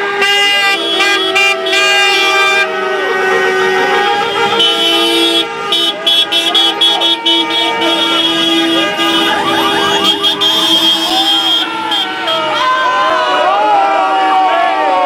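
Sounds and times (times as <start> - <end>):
car horns honking: 0.0 - 13.5
crowd voices: 0.0 - 15.0.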